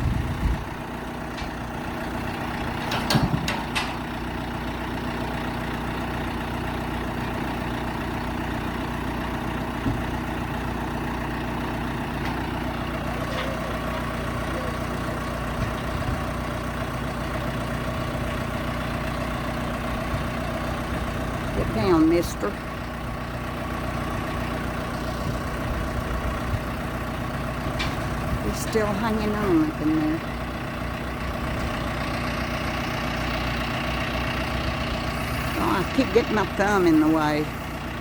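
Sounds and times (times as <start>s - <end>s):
heavy equipment engine idling: 0.0s - 38.0s.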